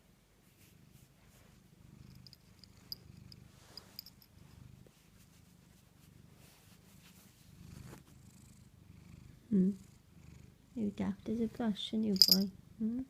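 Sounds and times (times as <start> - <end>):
cat purring: 0.4 - 13.0.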